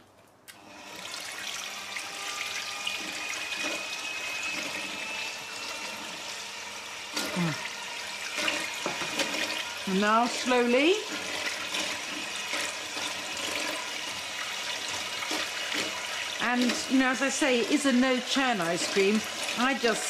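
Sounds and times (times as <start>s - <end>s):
electric hand mixer whirring: 0.5s - 20.0s.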